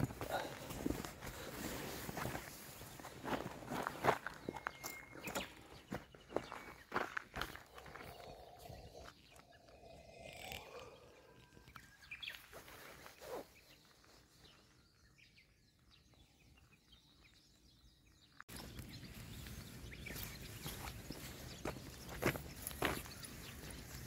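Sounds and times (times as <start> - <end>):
distant birds calling: 0.0 - 24.0.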